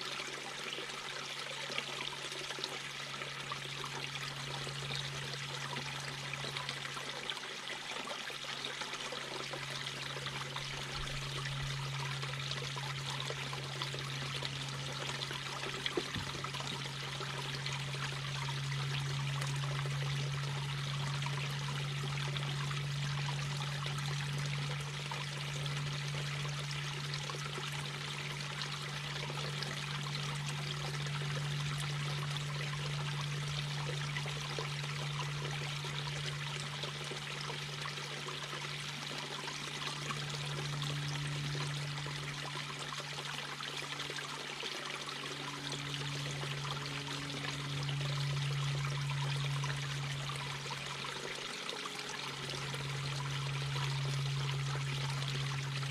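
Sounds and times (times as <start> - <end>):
brook babbling: 0.0 - 55.9
low hum: 9.0 - 55.9.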